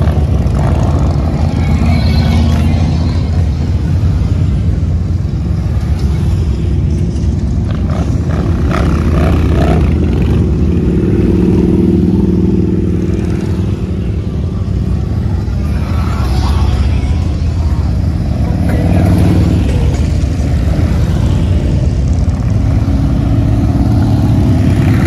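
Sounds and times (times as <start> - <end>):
motorcycles riding past: 0.0 - 25.0.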